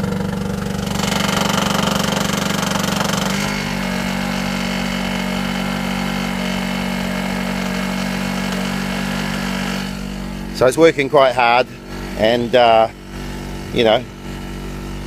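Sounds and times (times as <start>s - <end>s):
small petrol generator running: 0.0s - 15.0s.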